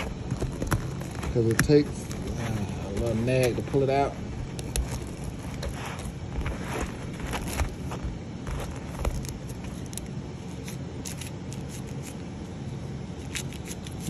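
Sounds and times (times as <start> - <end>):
plastic crackles and scrapes: 0.0 - 12.2
low background rumble: 0.0 - 14.0.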